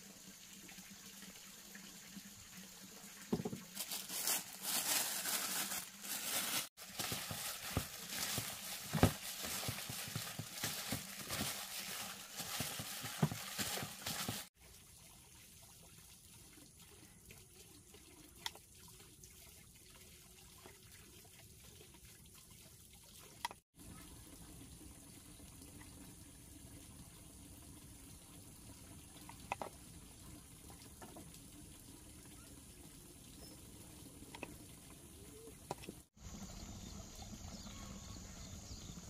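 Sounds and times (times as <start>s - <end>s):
water splashing and trickling: 0.0s - 38.9s.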